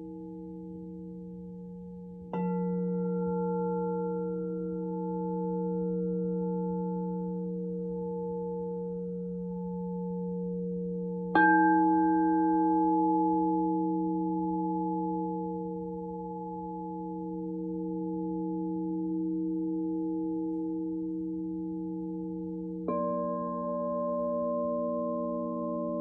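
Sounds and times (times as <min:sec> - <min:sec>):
crystal singing bowls ringing: 0:00.0 - 0:26.0.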